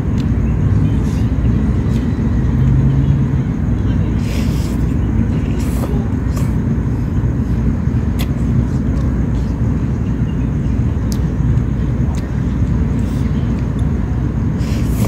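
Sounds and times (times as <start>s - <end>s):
steady low outdoor noise: 0.0s - 15.0s.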